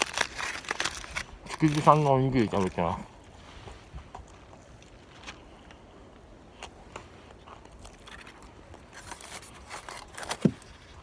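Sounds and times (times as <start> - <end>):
food crunching and rustling: 0.0 - 11.0.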